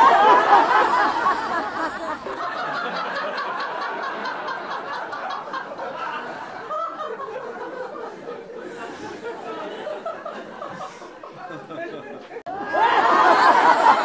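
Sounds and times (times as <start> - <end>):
audience laughter: 0.0 - 14.0.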